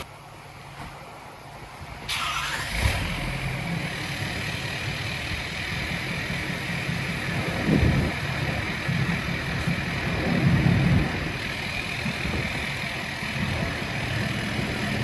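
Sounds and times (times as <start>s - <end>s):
vehicle engine running: 2.4s - 15.0s.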